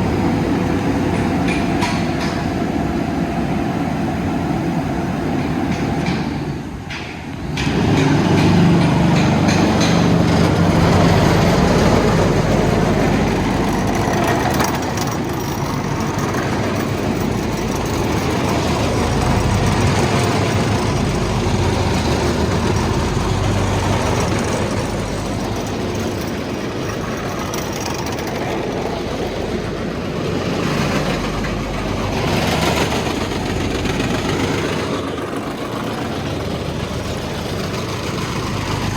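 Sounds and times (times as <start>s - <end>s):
diesel engine running: 7.6s - 38.9s.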